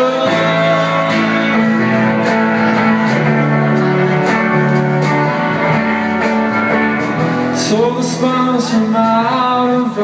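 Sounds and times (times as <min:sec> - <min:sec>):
live instrumental band music: 0:00.0 - 0:10.0.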